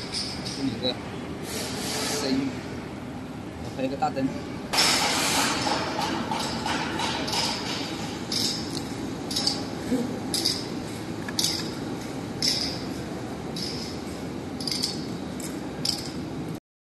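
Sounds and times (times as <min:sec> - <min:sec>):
steady background hum: 0:00.0 - 0:16.6.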